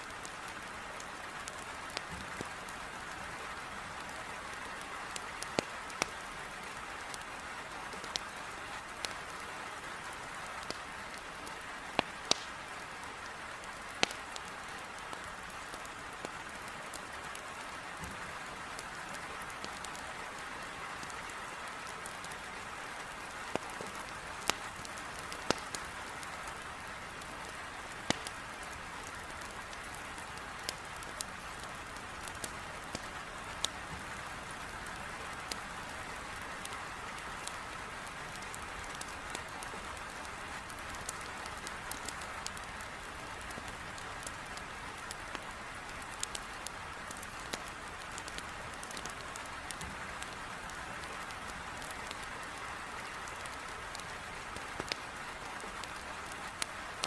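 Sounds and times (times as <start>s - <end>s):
heavy rain on a window: 0.0s - 57.0s
logs crackling in a fireplace: 0.1s - 57.0s.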